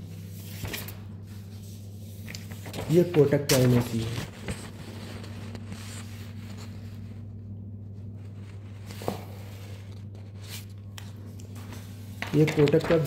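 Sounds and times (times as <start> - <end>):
paper shuffling and rustling: 0.0 - 7.3, 7.9 - 13.0
low hum: 0.0 - 12.2.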